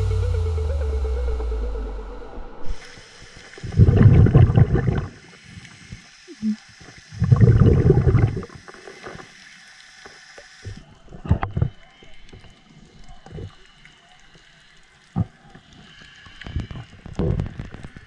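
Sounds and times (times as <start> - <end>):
underwater bubbles gurgling: 2.7 - 9.4, 10.1 - 18.0.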